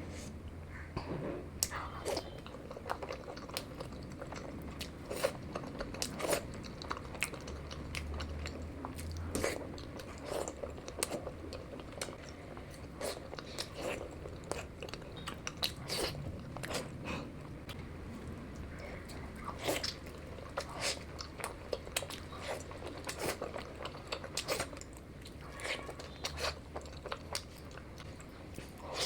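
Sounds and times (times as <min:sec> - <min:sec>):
faint low hum: 0:00.0 - 0:29.0
close chewing and biting: 0:01.6 - 0:29.0.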